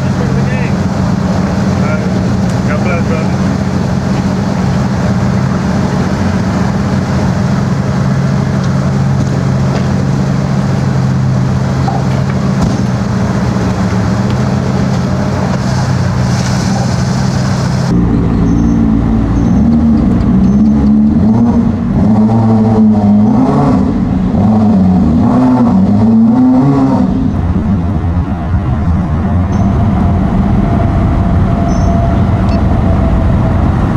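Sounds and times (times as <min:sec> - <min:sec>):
boat engine revving up and down: 0:00.0 - 0:33.9
motorboat engines running: 0:00.0 - 0:33.9.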